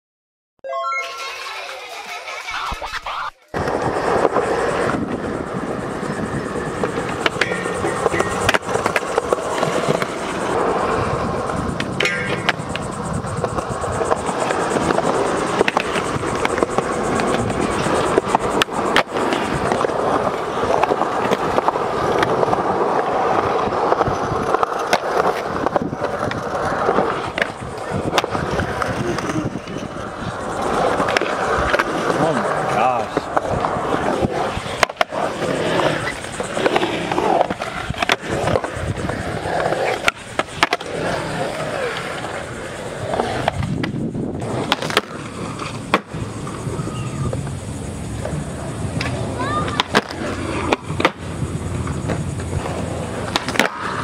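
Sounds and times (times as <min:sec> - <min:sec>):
skateboard wheels rolling on concrete: 0:00.7 - 0:54.0
skateboard sharp clacks: 0:06.1 - 0:47.6, 0:48.2 - 0:54.0.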